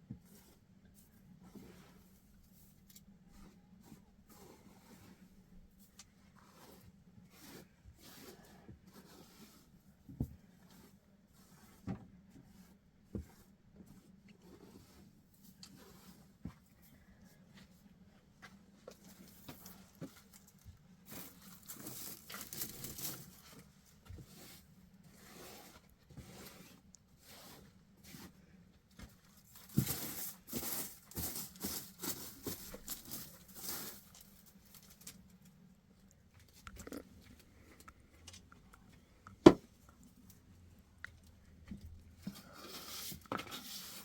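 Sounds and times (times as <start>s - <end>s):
rustling and scraping handling noise: 0.0s - 44.0s.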